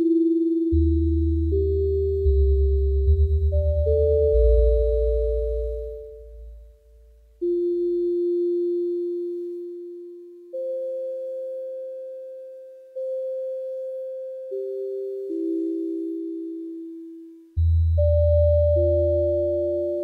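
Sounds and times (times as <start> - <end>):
electronic sine tones: 0.0 - 20.0.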